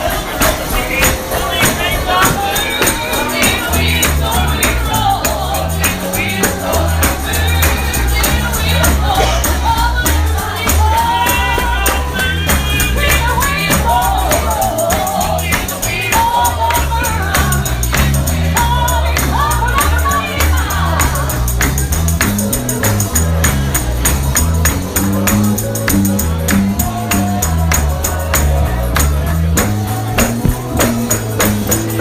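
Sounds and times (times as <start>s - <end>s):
several voices singing gospel: 0.0s - 21.9s, 26.3s - 32.0s
tambourine shaken and struck: 0.0s - 32.0s
walking bass line: 0.0s - 32.0s.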